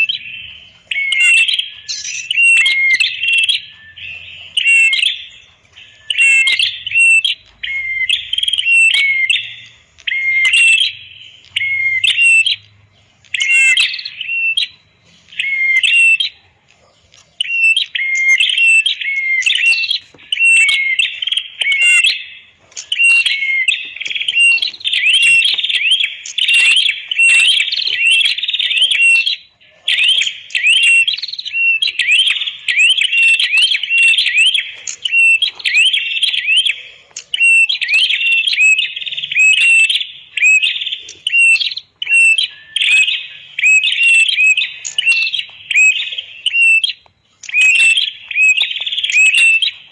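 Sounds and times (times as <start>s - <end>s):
bird chirping shrilly: 0.0s - 16.5s, 17.4s - 49.9s.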